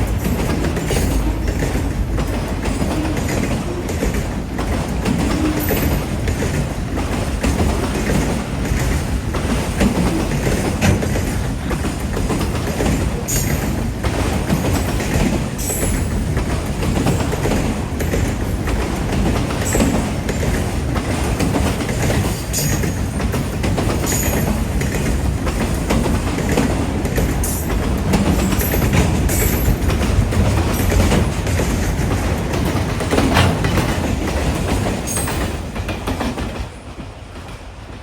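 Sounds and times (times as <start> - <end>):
wheels clattering over rail joints: 0.0 - 36.7
freight train cars rumbling: 0.0 - 38.0.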